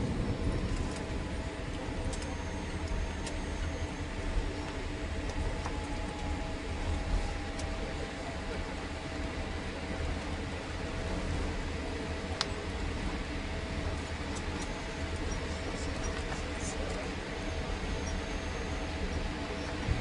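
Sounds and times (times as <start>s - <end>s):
jet engines idling: 0.0s - 20.0s
wheels rumbling on runway: 0.0s - 20.0s.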